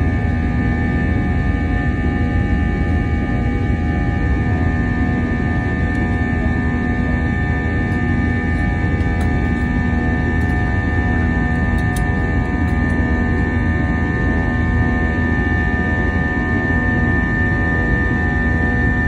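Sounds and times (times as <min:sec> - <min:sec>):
jet engines rumbling: 0:03.5 - 0:18.8
steady whining tones: 0:03.6 - 0:19.0.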